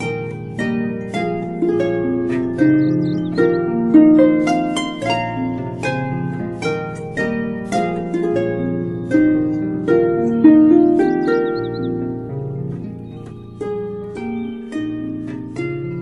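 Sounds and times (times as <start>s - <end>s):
harp-like plucked strings melody: 0.0s - 16.0s.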